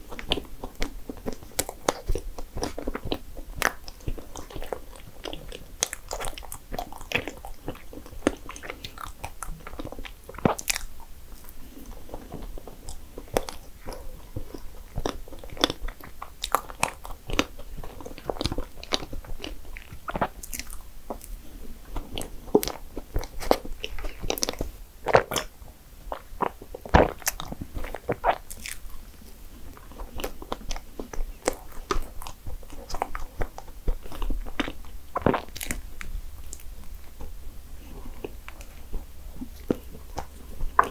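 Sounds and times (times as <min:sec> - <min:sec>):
person biting and chewing: 0:00.0 - 0:40.9.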